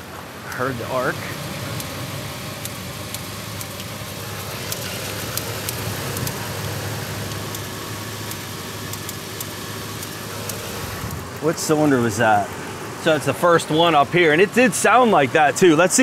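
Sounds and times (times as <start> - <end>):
engine idling with misfire: 0.0 - 16.0.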